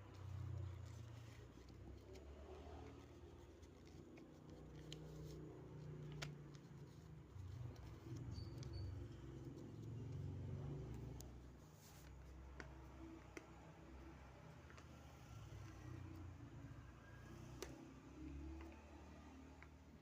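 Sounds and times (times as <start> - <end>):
paper clicks and rustles: 0.1 - 16.4.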